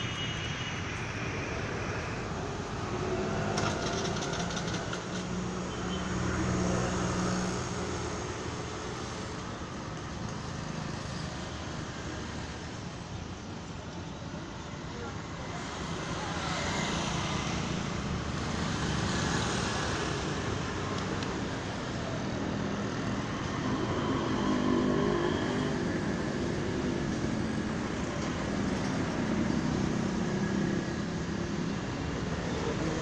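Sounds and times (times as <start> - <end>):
street traffic noise: 0.0 - 33.0
vehicle engines passing: 0.7 - 33.0.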